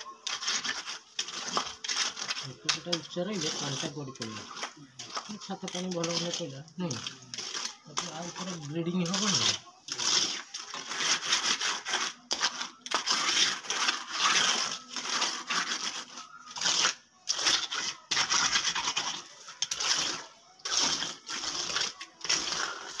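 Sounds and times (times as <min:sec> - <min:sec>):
trowel scraping wet concrete: 0:00.0 - 0:23.0.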